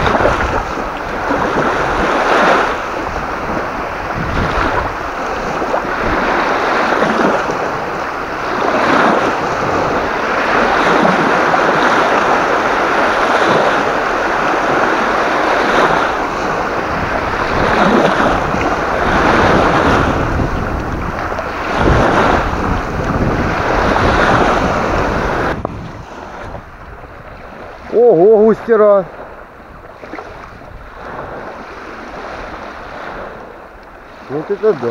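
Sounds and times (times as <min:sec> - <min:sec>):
gusty wind on microphone: 0:00.0 - 0:34.9.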